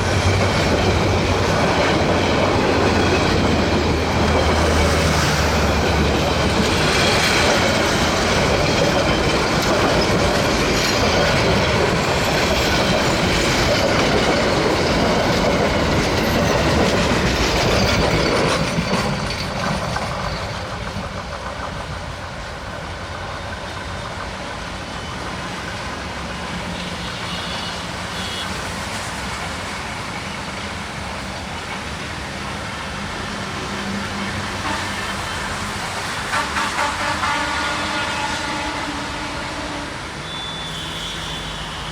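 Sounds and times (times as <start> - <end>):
train wheels clacking on rails: 0.0 - 41.9.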